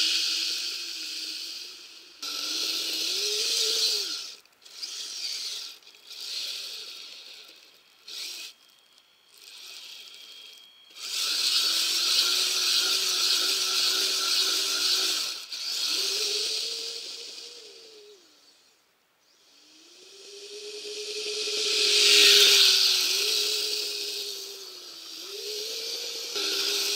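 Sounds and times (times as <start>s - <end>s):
electric motor whining: 0.0s - 18.6s, 19.4s - 26.9s.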